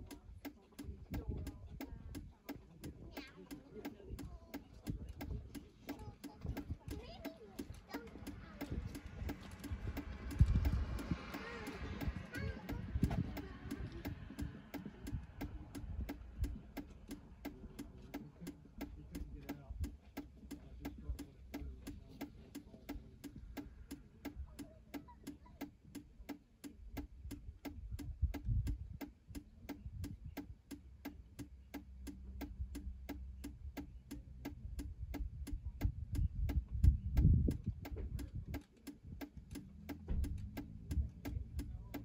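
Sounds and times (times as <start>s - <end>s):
hazard flasher ticking: 0.0s - 42.0s.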